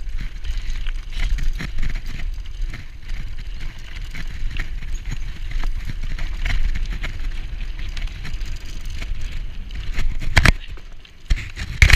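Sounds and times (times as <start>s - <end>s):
bike rattles and clicks: 0.0s - 11.9s
bike tyres rumbling on dirt: 0.0s - 11.9s
sharp clatter: 0.3s - 11.9s.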